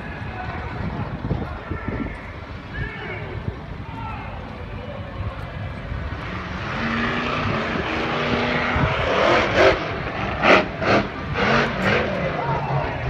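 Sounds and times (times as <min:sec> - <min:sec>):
large vehicle engine running: 0:00.0 - 0:13.0.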